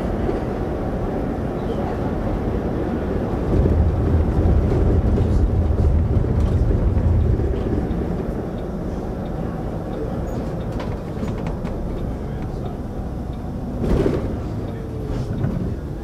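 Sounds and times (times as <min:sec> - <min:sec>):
bus engine rumble: 0:00.0 - 0:16.0
road and cabin noise: 0:00.0 - 0:16.0.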